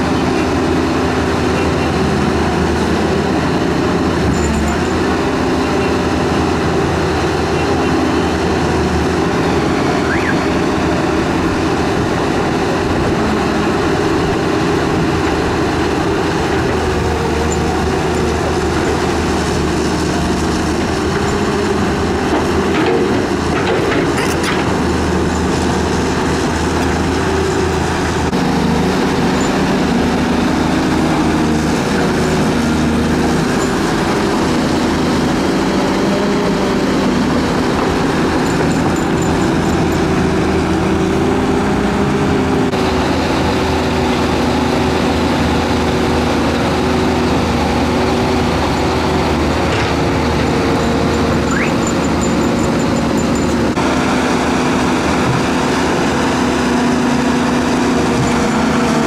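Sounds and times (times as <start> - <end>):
diesel excavator engines running: 0.0 - 59.0.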